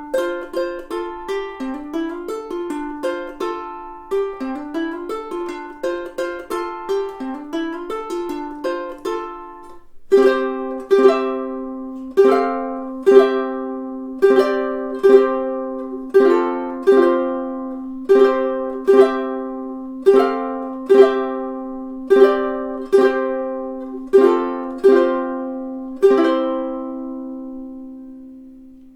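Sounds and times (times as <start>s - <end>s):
ukulele chords strummed: 0.0s - 28.9s.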